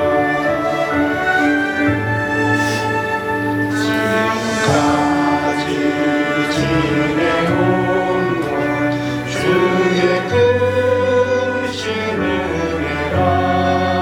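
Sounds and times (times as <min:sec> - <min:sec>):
choir singing gospel song: 0:00.0 - 0:14.0
instrumental accompaniment: 0:00.0 - 0:14.0.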